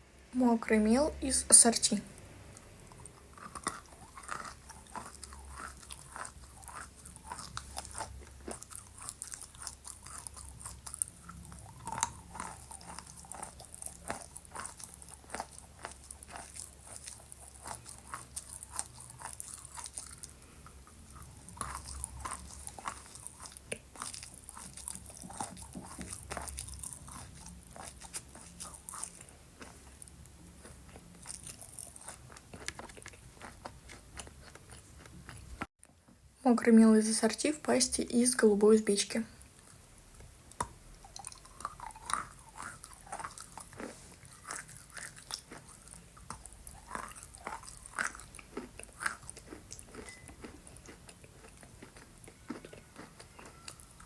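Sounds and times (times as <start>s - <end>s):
chalk being chewed: 2.9s - 35.7s, 40.5s - 54.0s.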